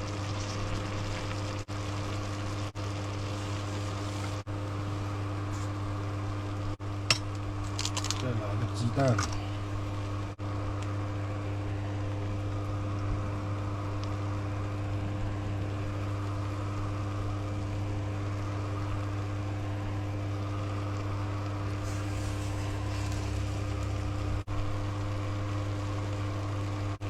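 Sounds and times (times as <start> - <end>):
exhaust fan humming: 0.0 - 27.0
faint sizzle: 0.0 - 27.0.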